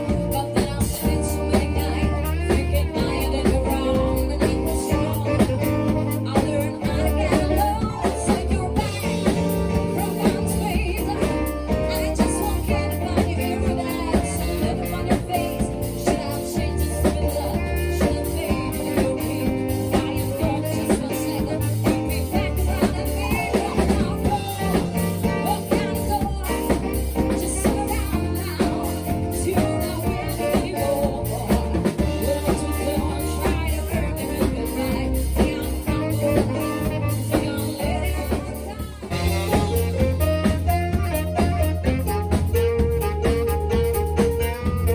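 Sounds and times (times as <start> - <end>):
bass notes: 0.0 - 44.9
drum kit beat: 0.0 - 44.9
person singing: 0.0 - 44.9.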